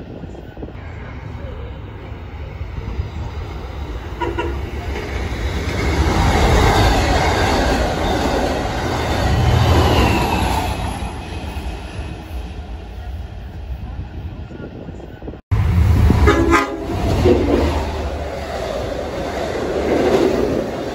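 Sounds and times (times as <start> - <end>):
diesel locomotive passing: 0.0 - 20.9
train passing close by: 0.0 - 20.9.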